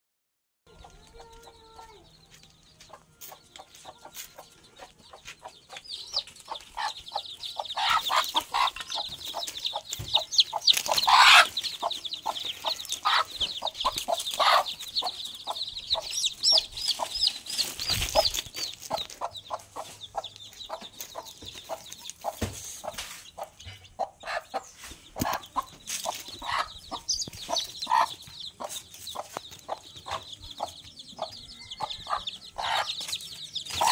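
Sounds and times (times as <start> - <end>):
chicks peeping: 0.7 - 33.9
hen clucking: 2.8 - 33.9.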